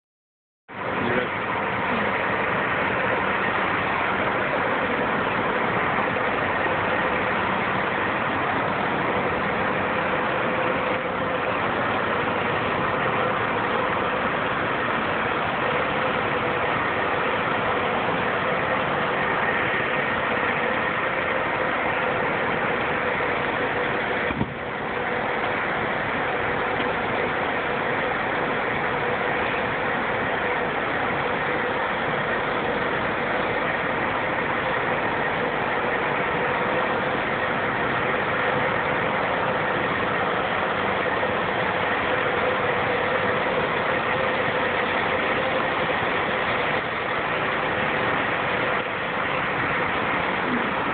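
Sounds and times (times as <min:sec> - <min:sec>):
mechanical drone: 0:00.7 - 0:50.9.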